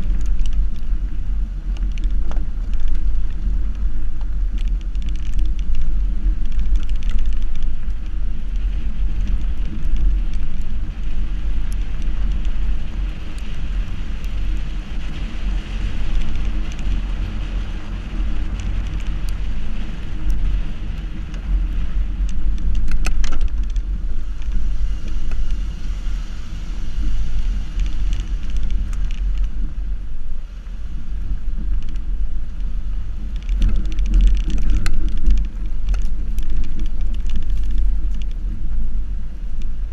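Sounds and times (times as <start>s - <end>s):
stones clicking against car: 0.0s - 26.0s, 26.9s - 39.9s
tyres rumbling on gravel: 0.0s - 39.9s.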